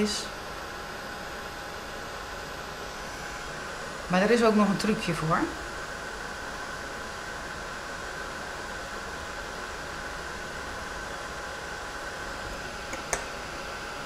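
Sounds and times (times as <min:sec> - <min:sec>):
heat tool blowing hot air: 0:00.0 - 0:14.0.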